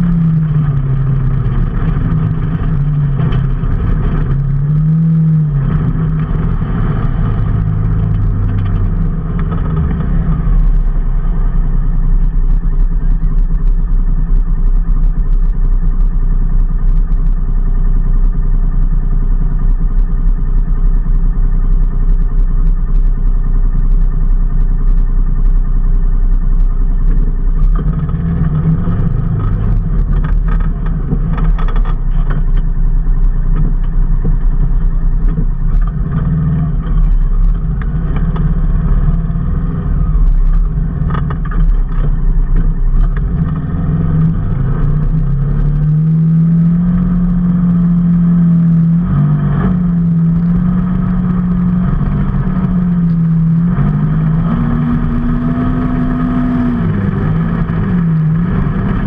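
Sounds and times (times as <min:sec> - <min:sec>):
road and wind noise: 0:00.0 - 0:59.0
vehicle engine on the move: 0:00.0 - 0:59.0.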